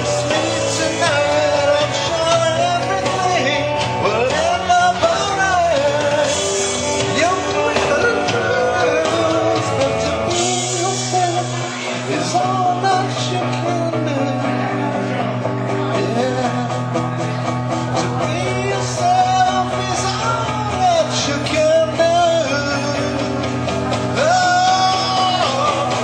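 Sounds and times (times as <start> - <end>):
amplified rock music: 0.0 - 26.0
man singing into microphone: 0.0 - 26.0.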